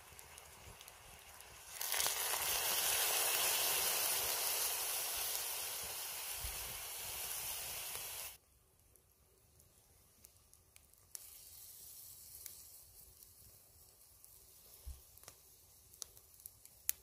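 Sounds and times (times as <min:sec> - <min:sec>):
beer sizzling in a hot pan: 0:00.0 - 0:08.4, 0:11.1 - 0:17.0.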